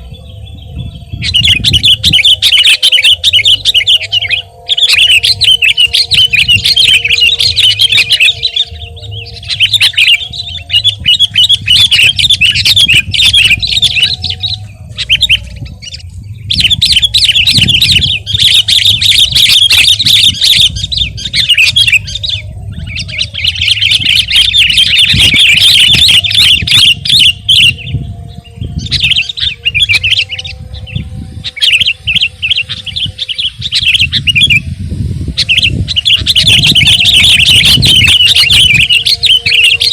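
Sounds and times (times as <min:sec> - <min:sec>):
bird singing rapid chattering notes: 0:00.0 - 0:39.9
steady low rumble: 0:00.0 - 0:39.9.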